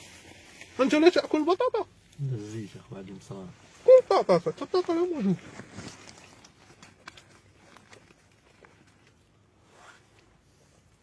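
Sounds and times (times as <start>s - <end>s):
rustles of handling: 0.0s - 11.0s.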